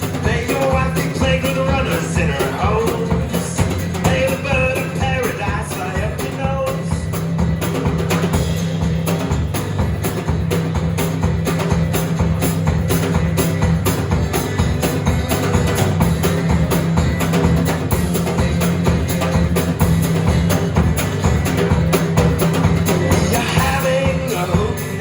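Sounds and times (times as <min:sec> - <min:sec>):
acoustic guitar strumming: 0:00.0 - 0:25.0
drum kit steady beat: 0:00.0 - 0:25.0.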